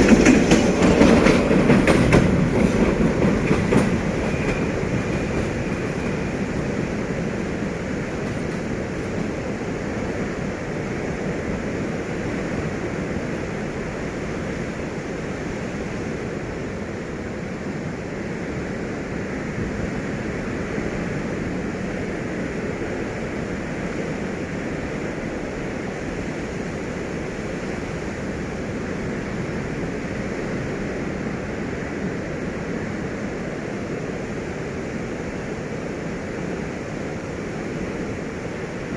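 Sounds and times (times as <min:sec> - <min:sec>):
passenger train rushing: 0:00.0 - 0:38.9.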